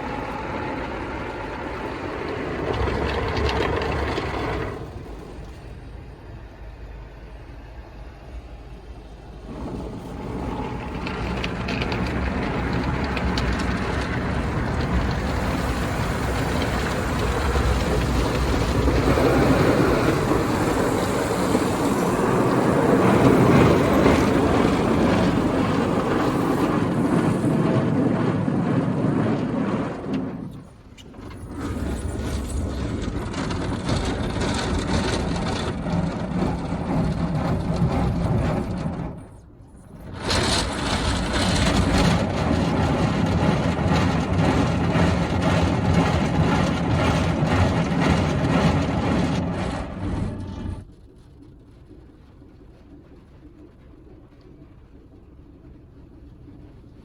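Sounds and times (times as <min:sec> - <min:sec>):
car wash water spray and machinery: 0:00.0 - 0:57.0.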